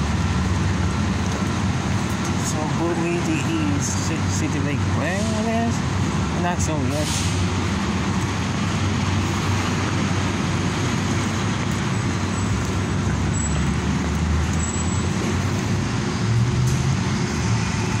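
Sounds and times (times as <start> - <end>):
bus engine humming: 0.0 - 18.0
street traffic: 0.0 - 18.0.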